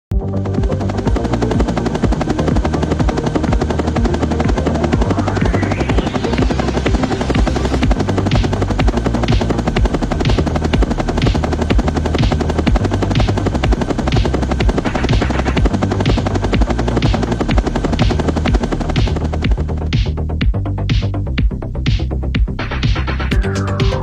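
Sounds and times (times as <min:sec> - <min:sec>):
electronic music with beat: 0:00.1 - 0:24.0
helicopter rotor chop: 0:00.2 - 0:24.0.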